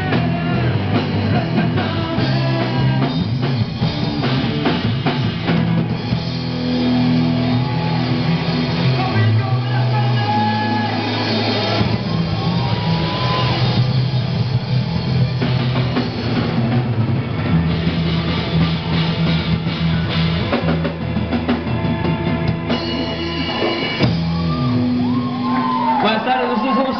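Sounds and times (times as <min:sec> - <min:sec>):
held bass notes: 0:00.0 - 0:26.5
loud electric guitars: 0:00.0 - 0:26.9.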